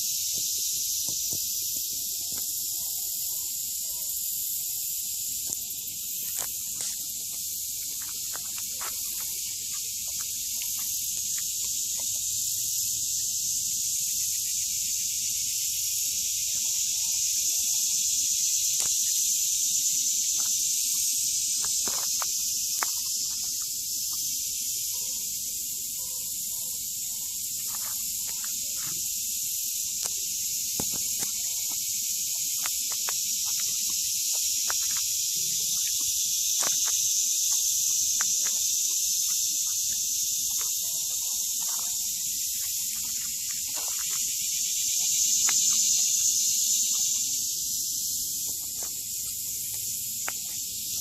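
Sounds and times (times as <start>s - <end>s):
outdoor ambience hiss: 0.0s - 51.0s.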